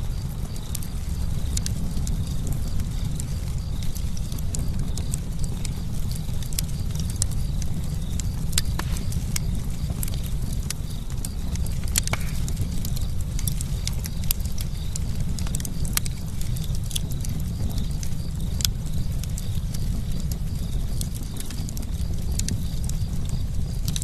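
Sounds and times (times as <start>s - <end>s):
campfire crackling: 0.0s - 24.0s
low rumble of flames: 0.0s - 24.0s.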